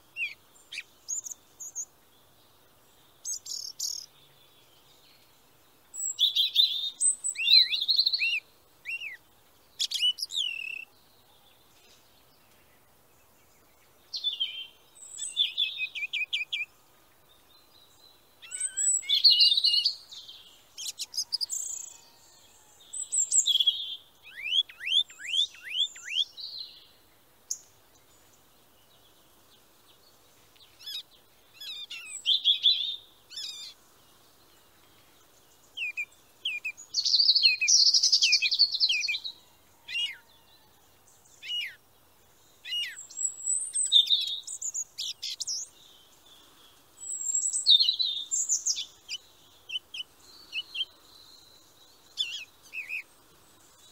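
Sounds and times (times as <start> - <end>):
sparrows chirping: 0.0 - 53.9.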